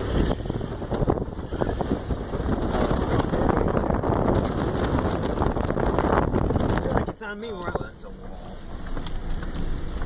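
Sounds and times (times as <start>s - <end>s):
car engine climbing: 0.0s - 10.0s
rocks and gravel crunching under wheels: 0.0s - 10.0s.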